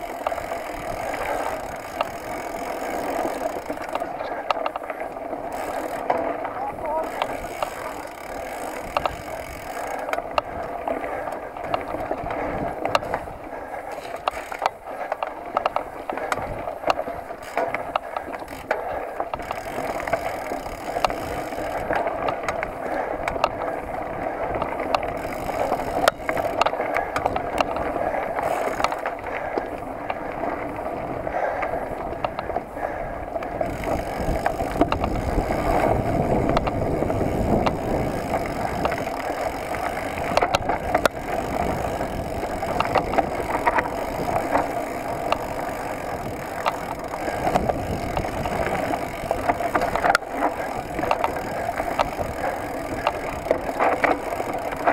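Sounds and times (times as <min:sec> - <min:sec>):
bike rattling over rough ground: 0:00.0 - 0:54.9
mountain bike tyres rolling: 0:00.0 - 0:54.9.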